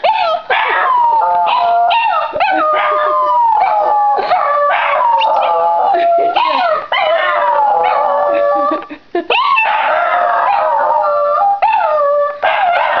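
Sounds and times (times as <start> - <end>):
dogs howling together: 0.0 - 13.0.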